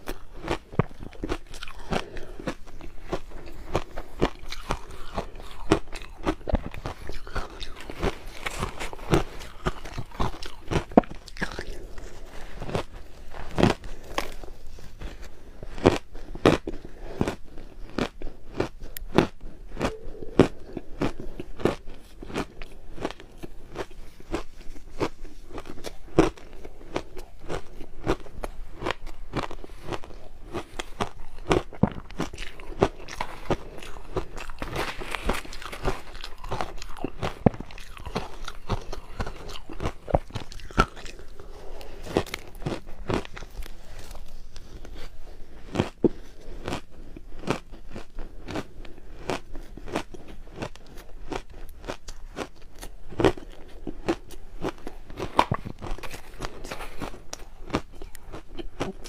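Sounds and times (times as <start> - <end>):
chewing crushed ice: 0.0 - 59.0.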